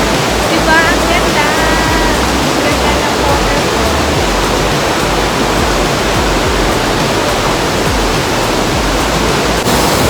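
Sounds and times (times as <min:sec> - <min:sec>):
waterfall crashing: 0:00.0 - 0:10.0.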